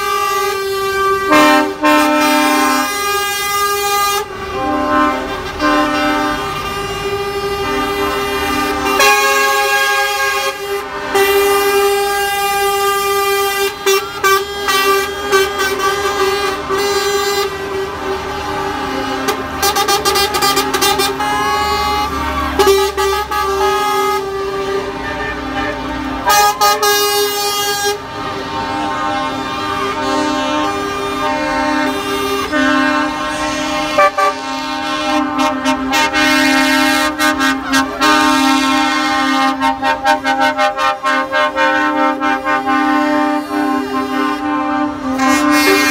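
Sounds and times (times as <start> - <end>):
lorry air horns: 0.0 - 45.9.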